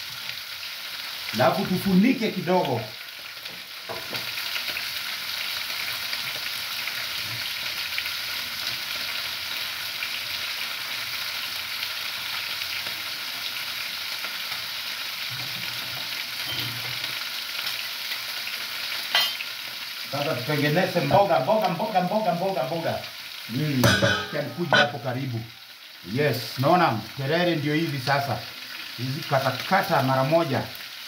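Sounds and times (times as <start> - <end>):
food sizzling in a pan: 0.0 - 31.0.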